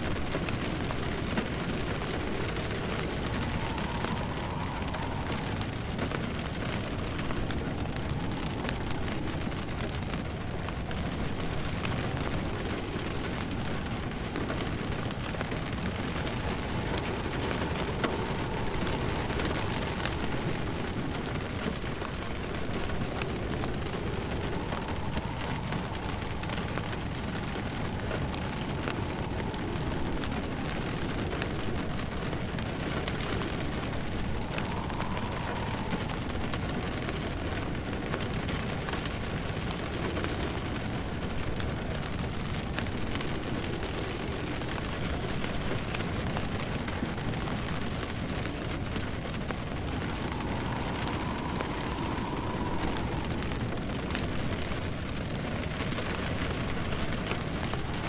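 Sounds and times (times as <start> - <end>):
steady rain: 0.0 - 58.0
wood fire crackling: 0.0 - 58.0.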